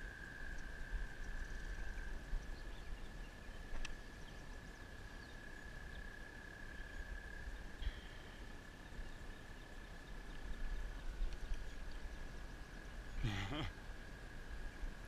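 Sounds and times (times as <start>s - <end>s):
faint bird chirps: 0.5s - 13.9s.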